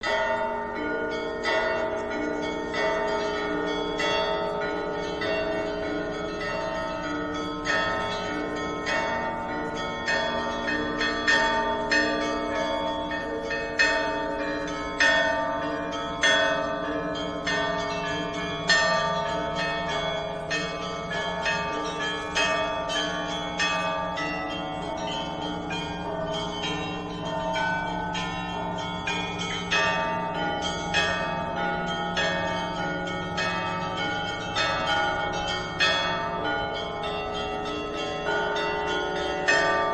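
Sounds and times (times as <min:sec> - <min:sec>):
smaller bells striking: 0:00.0 - 0:39.9.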